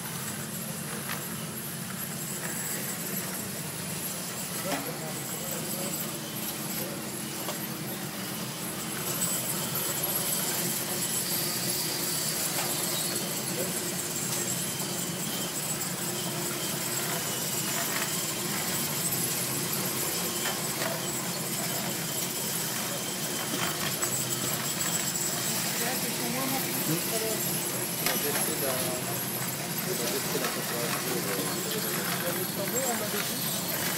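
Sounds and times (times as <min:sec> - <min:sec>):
machine hum and hiss: 0:00.0 - 0:33.9.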